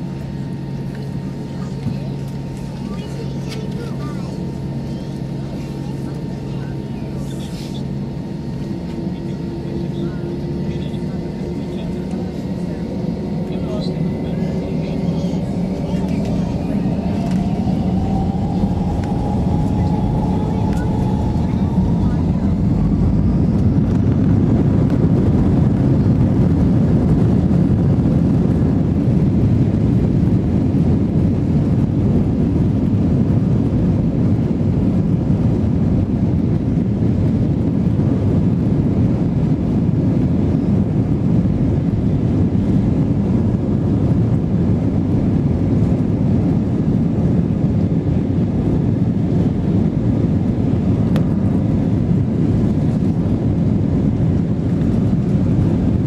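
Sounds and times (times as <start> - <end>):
aircraft engine drone: 0.0 - 56.0
ground rumble: 5.8 - 56.0.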